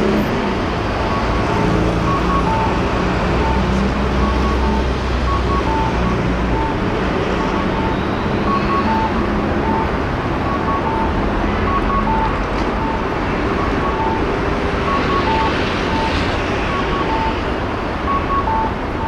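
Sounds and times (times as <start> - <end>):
traffic: 0.0 - 19.0
two-pitch electronic beeps: 1.0 - 6.8, 7.5 - 17.4, 18.1 - 19.0.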